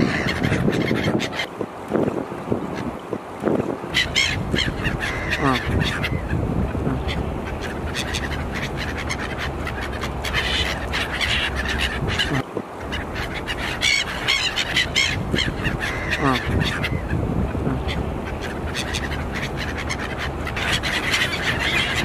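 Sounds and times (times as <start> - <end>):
gulls squawking: 0.0 - 22.0.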